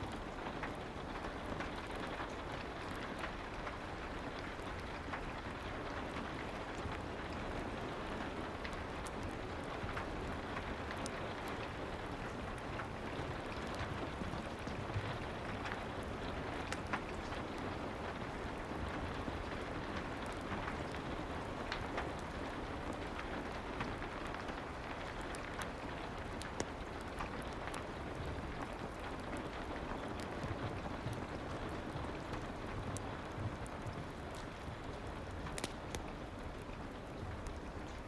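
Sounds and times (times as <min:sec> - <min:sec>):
soft steady rain: 0:00.0 - 0:38.0.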